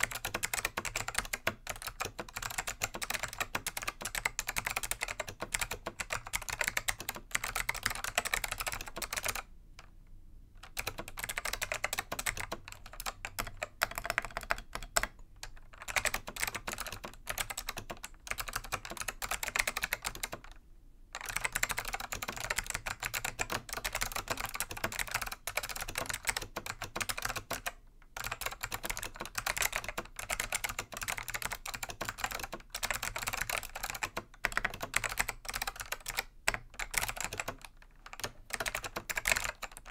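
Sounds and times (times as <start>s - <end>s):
keyboard typing clicks: 0.0s - 9.4s, 10.6s - 20.6s, 21.2s - 39.9s.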